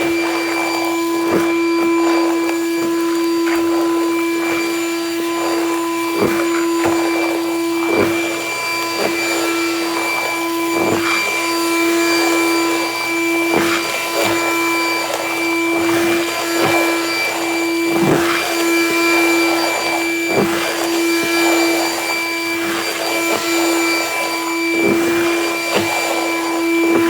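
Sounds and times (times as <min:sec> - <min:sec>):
shop vacuum running: 0:00.0 - 0:27.0.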